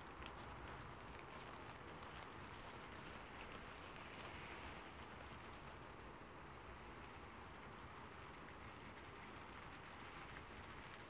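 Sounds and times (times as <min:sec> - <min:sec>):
rain falling on a rooftop: 0:00.0 - 0:11.0.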